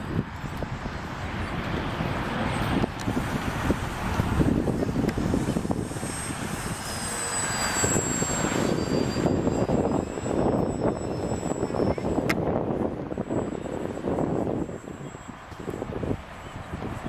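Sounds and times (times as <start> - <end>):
wind buffeting microphone: 0.0 - 17.0
model airplane motor whine: 1.4 - 17.0.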